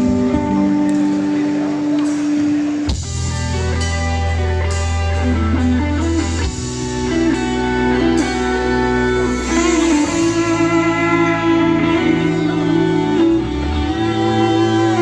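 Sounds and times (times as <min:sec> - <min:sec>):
pop-rock band playing: 0:00.0 - 0:15.0.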